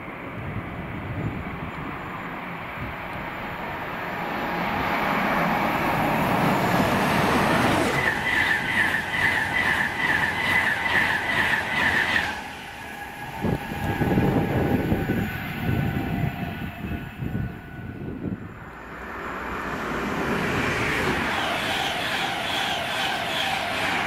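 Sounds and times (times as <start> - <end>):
another train approaching: 0.0 - 24.0
train passing with high whine: 0.0 - 24.0
train rumbling: 0.0 - 24.0.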